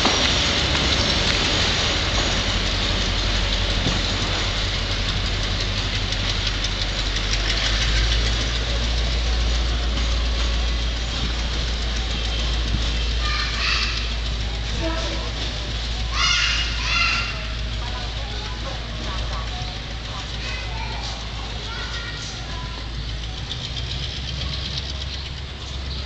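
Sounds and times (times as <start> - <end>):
locomotive engine rumble: 0.0 - 26.0
train carriages rolling: 0.0 - 26.0.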